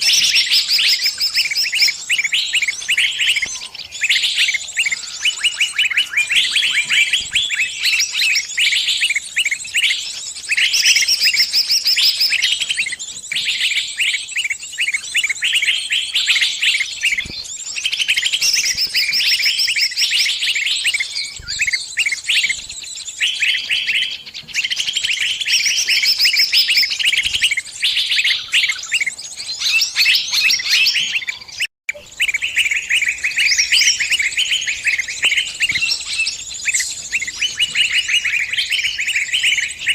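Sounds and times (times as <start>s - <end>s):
small bird distress calls: 0.0s - 39.9s.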